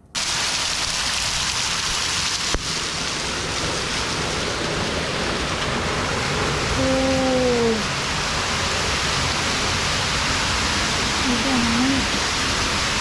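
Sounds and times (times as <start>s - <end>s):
waterfall rushing: 0.2s - 13.0s.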